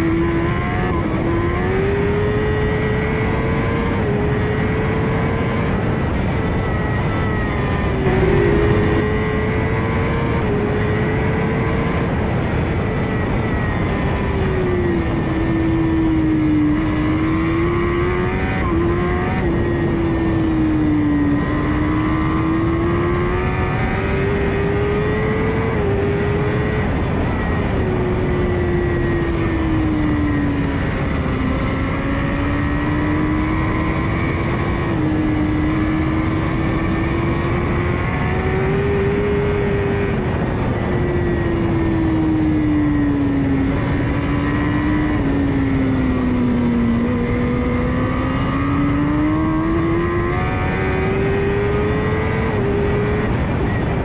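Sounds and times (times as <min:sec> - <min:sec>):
race motorcycle engine revving: 0:00.0 - 0:53.8
wind rush: 0:00.0 - 0:54.0.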